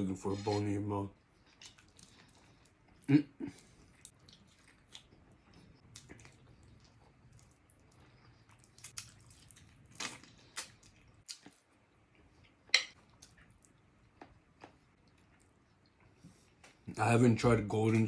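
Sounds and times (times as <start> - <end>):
wet chewing: 1.3 - 16.8.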